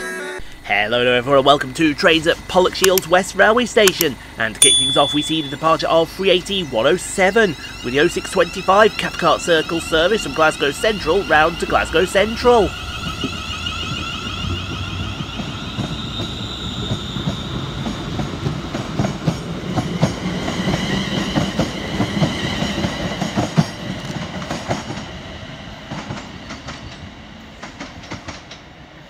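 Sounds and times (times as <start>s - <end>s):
train electric whine: 0.1s - 29.0s
wheels clicking on rail joints: 1.6s - 25.1s.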